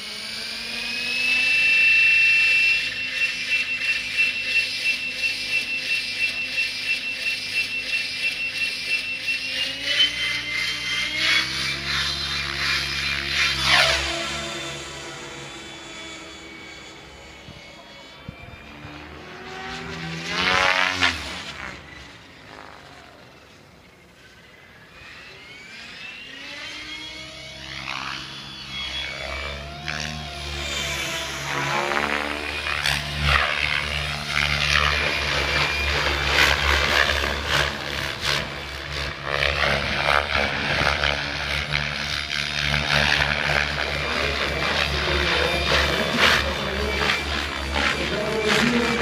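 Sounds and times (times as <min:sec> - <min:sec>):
rc helicopter rotor and motor whine: 0:00.0 - 0:49.0.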